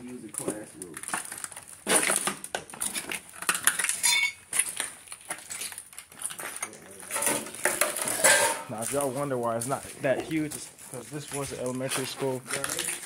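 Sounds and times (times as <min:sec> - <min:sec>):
footsteps among debris: 0:00.0 - 0:13.0.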